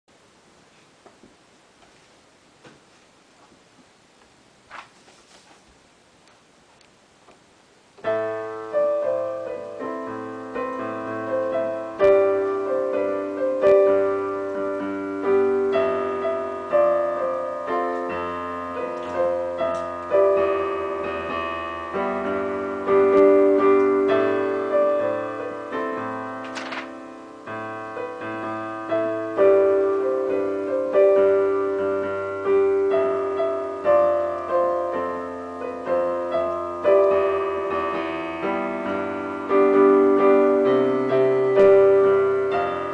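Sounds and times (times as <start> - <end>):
digital piano playing: 8.0 - 42.9.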